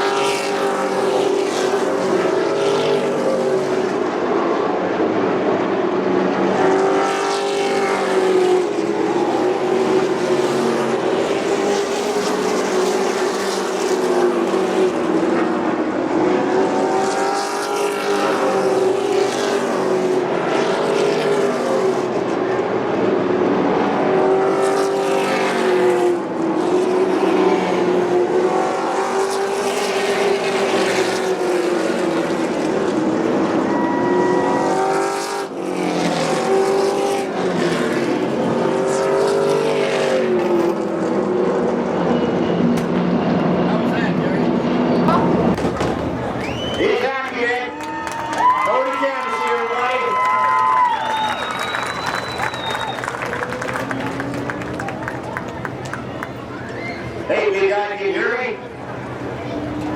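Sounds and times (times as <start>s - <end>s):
race truck engines passing: 0.0s - 59.9s.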